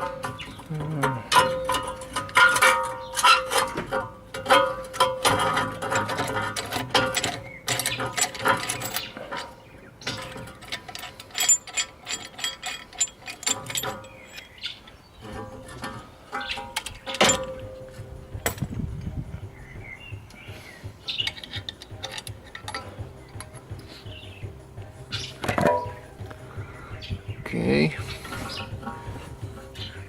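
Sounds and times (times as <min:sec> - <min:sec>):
tools scraping metal: 0:00.0 - 0:18.7, 0:20.6 - 0:24.4, 0:27.8 - 0:30.0
metal clinks and knocks: 0:00.0 - 0:30.0.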